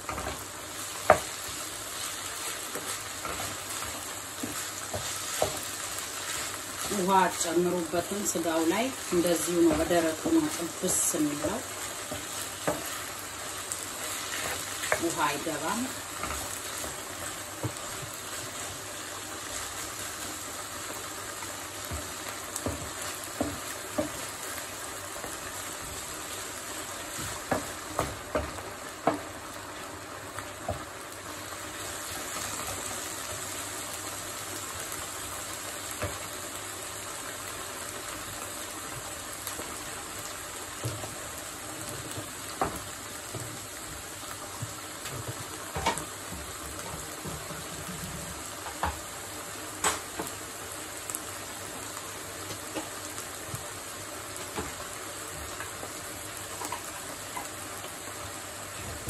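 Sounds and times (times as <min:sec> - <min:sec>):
meat sizzling in a pan: 0:00.0 - 0:59.0
rice simmering in water: 0:00.0 - 0:59.0.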